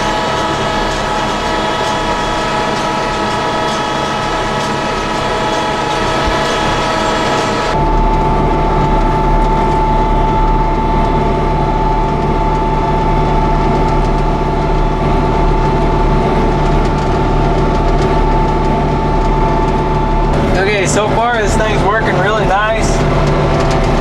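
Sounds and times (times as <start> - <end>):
steady machine whine: 0.0 - 24.0
tractor engine running: 0.0 - 24.0.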